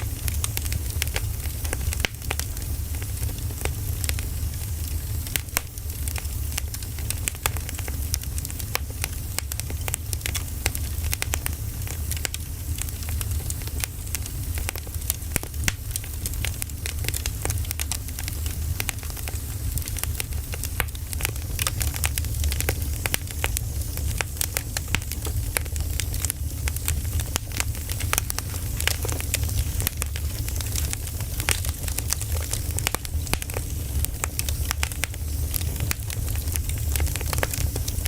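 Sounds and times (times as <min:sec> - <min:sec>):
firewood crackling and popping: 0:00.0 - 0:38.0
low rumble of fire: 0:00.0 - 0:38.0.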